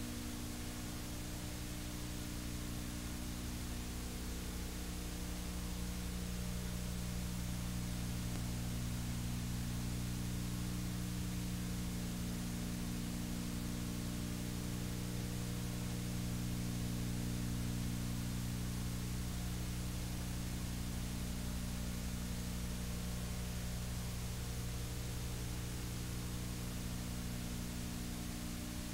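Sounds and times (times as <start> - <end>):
constant tape hiss: 0.0 - 28.9
electrical hum: 0.0 - 28.9.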